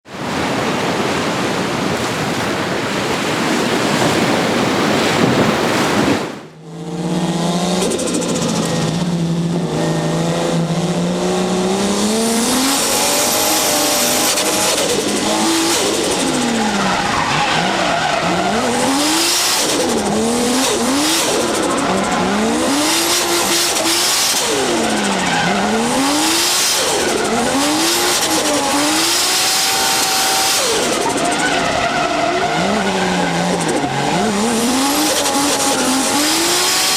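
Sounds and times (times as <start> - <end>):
turbocharged car engine revving: 6.7 - 36.9.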